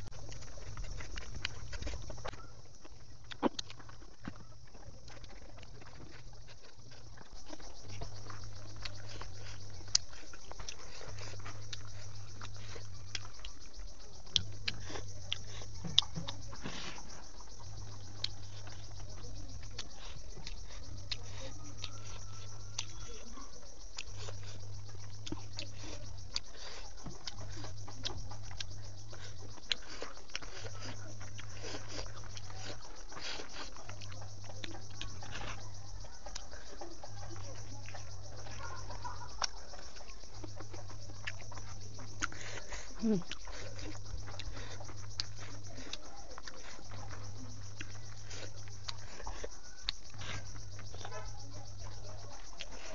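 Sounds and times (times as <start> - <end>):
chewing food: 0.0 - 52.9.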